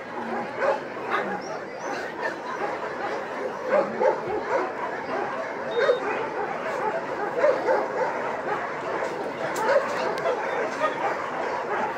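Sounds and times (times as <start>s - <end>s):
dogs barking and yipping: 0.0s - 11.9s.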